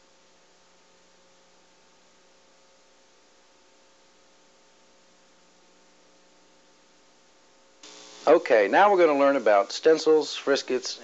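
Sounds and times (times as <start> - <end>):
background hiss: 0.0 - 11.0
faint electrical hum: 0.0 - 11.0.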